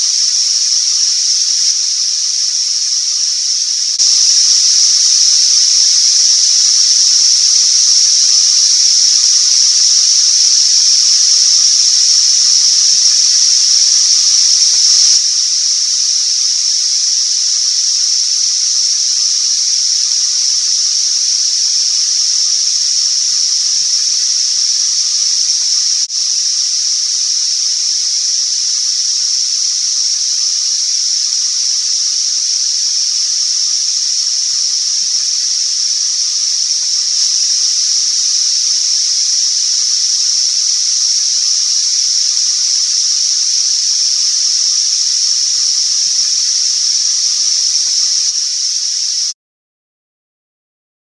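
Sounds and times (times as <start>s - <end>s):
cicadas buzzing shrilly: 0.0s - 49.4s.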